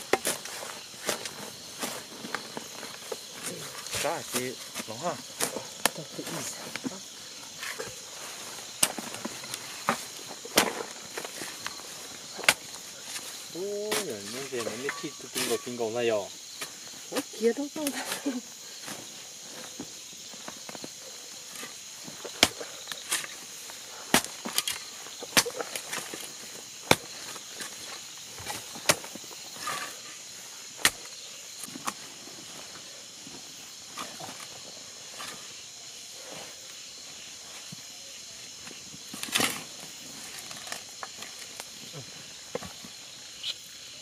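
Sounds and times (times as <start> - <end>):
digging knocks and scrapes: 0.0 - 17.4, 18.0 - 35.7, 38.6 - 41.8
night insects chorus: 0.0 - 44.0.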